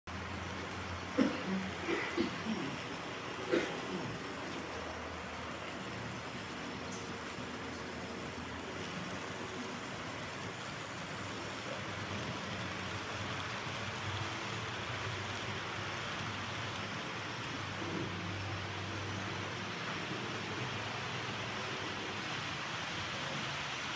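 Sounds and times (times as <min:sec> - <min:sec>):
model train wheels rolling: 0:04.3 - 0:23.9.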